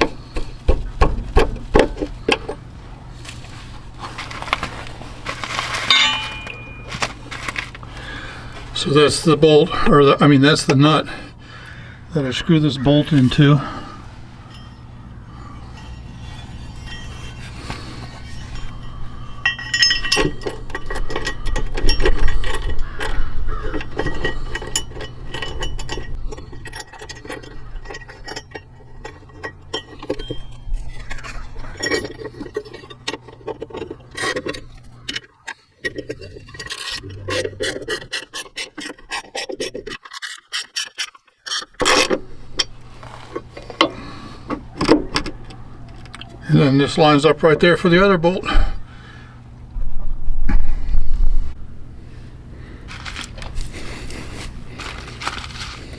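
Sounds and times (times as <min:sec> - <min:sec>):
metal scraping and clinking: 0:00.0 - 0:48.6, 0:52.9 - 0:55.9.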